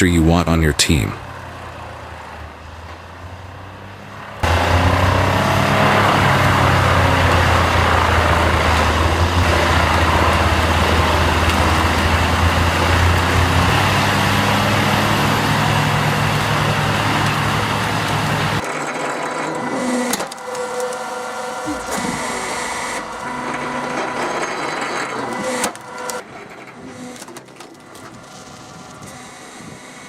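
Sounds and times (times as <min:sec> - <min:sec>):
diesel engine running hard: 0:00.9 - 0:30.0
wood grinding and crushing: 0:04.4 - 0:30.0.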